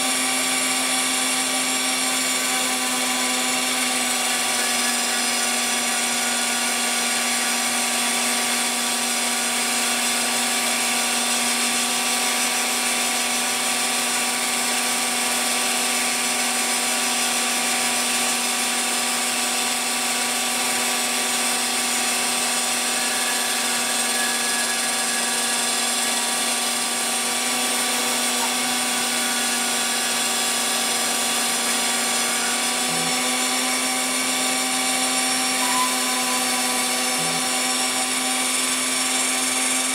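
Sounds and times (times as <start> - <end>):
mill spindle cutting fibreglass: 0.0 - 39.9.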